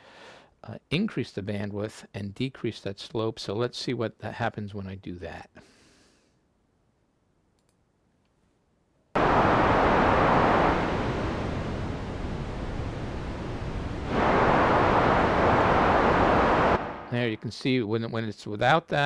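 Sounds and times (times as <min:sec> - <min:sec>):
filtered white noise hiss: 0:00.0 - 0:19.0.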